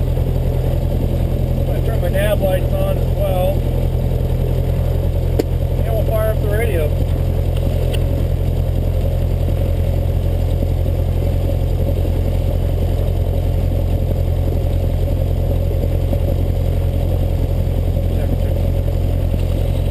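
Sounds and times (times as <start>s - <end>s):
propeller plane engine idling: 0.0s - 19.9s.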